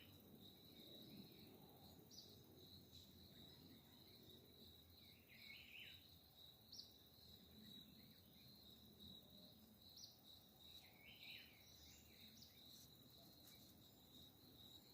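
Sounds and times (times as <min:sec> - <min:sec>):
high insect trill: 0:00.0 - 0:14.9.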